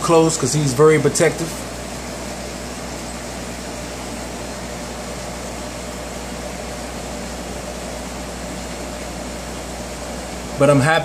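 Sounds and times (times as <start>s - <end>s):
aquarium equipment humming: 0.0s - 11.0s.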